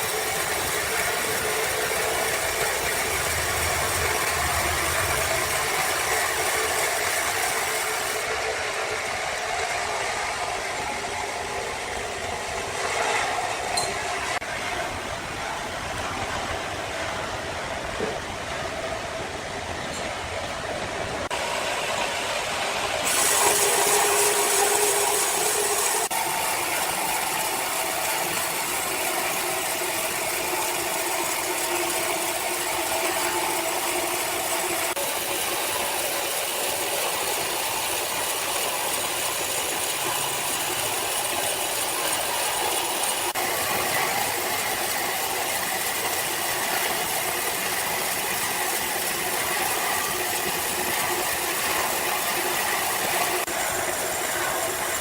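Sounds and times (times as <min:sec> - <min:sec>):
sawmill saw cutting timber: 0:00.0 - 0:14.7, 0:21.2 - 0:55.0.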